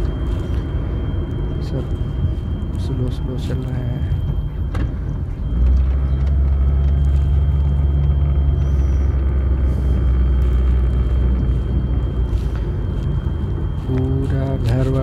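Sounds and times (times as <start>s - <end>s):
low rumble inside moving car: 0.0s - 15.0s.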